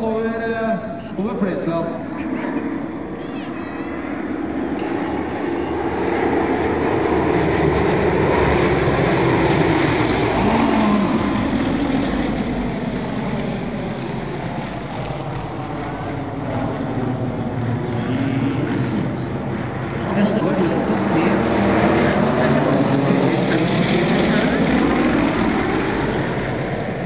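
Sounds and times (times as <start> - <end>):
propeller planes flying past: 0.0 - 27.0.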